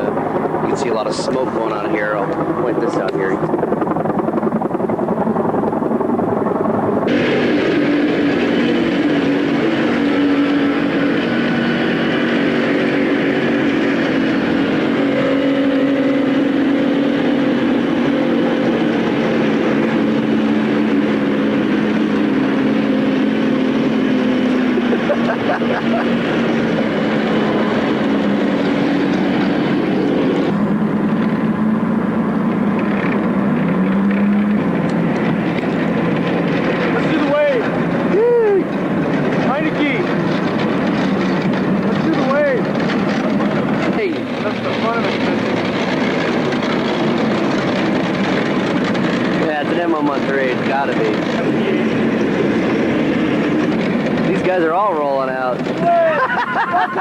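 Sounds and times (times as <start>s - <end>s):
large vehicle engine droning: 0.0s - 57.0s.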